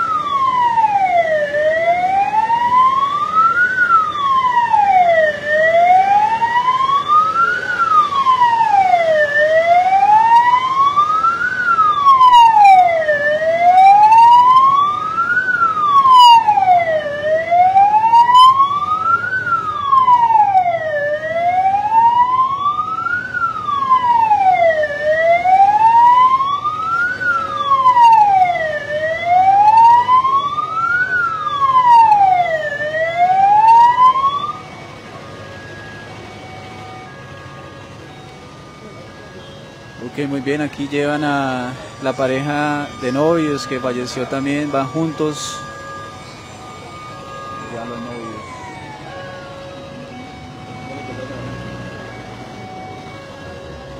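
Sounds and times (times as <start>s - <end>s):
vehicle siren wailing: 0.0s - 53.9s.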